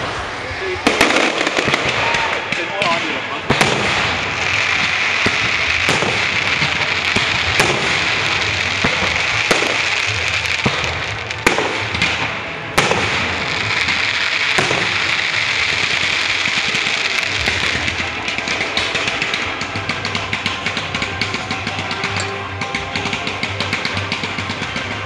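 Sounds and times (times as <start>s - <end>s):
fireworks crackling: 0.0s - 25.0s
fireworks shells bursting: 0.8s - 25.0s.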